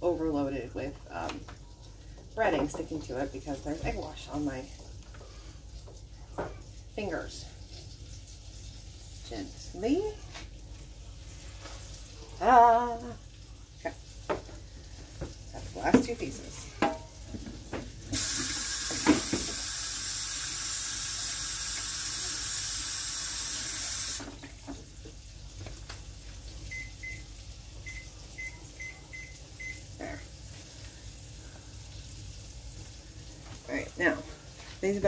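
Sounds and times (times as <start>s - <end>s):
kitchen tap running: 0.0s - 35.0s.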